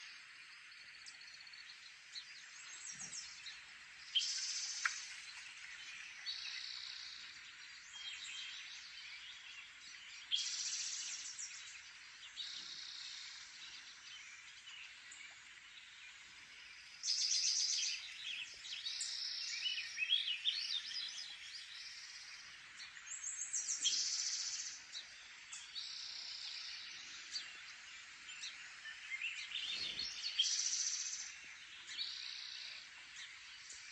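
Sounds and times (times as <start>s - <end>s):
songbird chirps and trills: 0.0s - 33.9s.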